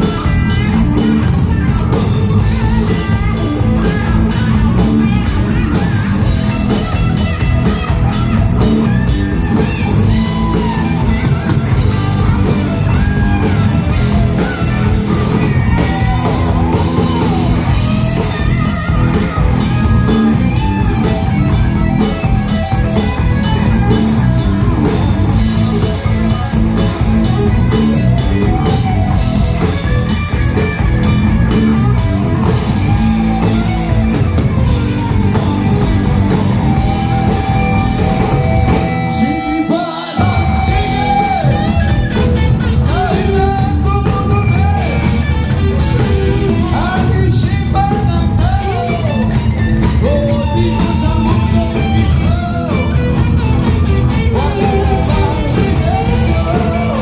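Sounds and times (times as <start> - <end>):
lead guitar melody: 0.0 - 57.0
rock band playing live: 0.0 - 57.0.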